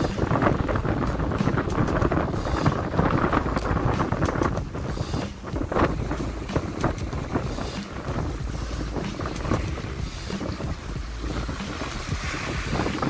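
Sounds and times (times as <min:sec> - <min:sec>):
surf breaking against rocks: 0:00.0 - 0:13.0
wind buffeting microphone: 0:00.0 - 0:13.0.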